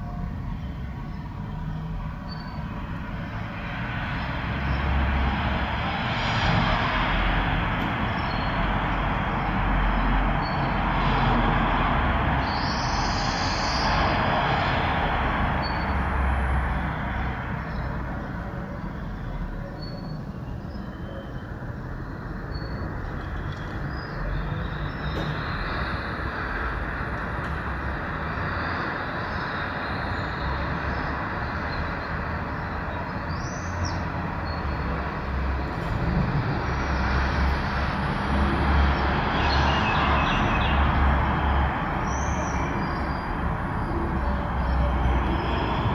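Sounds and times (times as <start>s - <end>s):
steady traffic noise: 0.0s - 45.9s.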